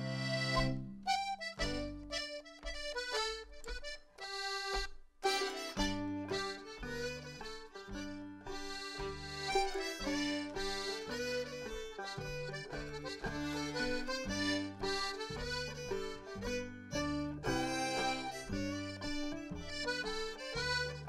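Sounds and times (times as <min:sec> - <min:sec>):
acoustic folk band playing: 0:00.0 - 0:21.0
button accordion: 0:00.0 - 0:21.0
upright bass line: 0:00.0 - 0:21.0.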